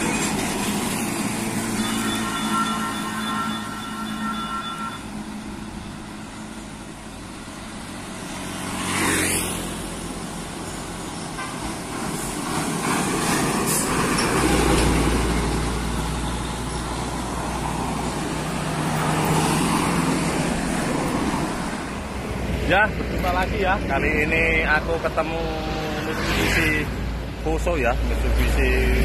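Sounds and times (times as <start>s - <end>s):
heavy vehicle engine rumble: 0.0s - 8.7s, 9.6s - 29.0s
vehicles passing: 0.0s - 29.0s.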